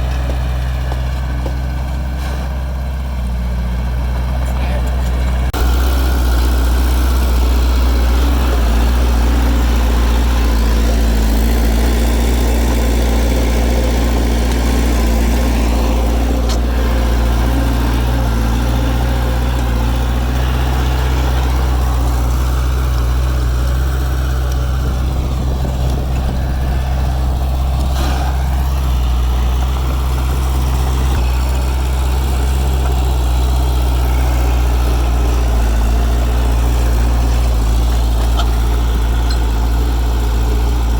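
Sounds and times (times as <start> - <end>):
diesel machinery engine running: 0.0 - 40.9.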